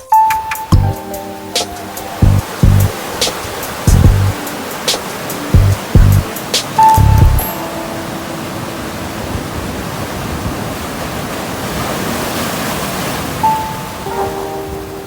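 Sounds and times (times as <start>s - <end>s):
seawater rushing through cave: 0.9s - 15.0s.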